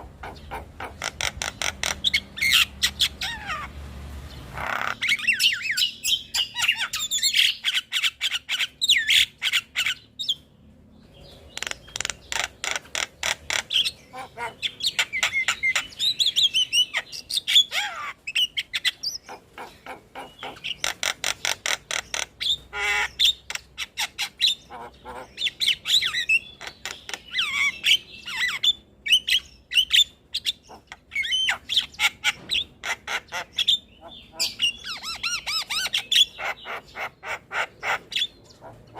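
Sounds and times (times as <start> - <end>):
myna bird song: 0.0 - 38.9.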